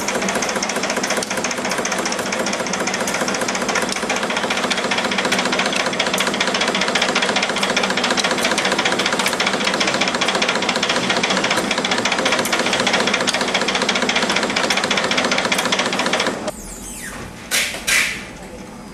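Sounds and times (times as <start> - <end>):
spring coiling machine clattering: 0.0 - 16.5.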